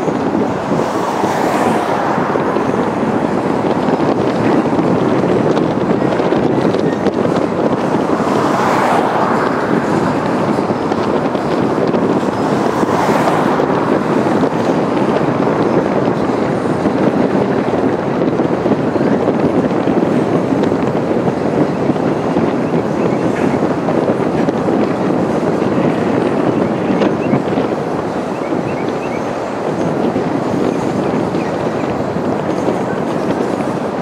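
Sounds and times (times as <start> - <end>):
train wheels rumbling on rails: 0.0 - 34.0
wind on microphone: 0.0 - 34.0.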